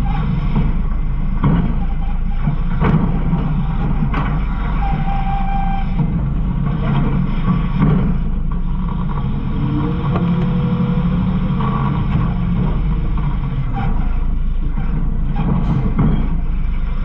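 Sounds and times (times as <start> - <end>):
garbage truck engine running: 0.0 - 17.0
rattles and knocks: 0.0 - 17.0.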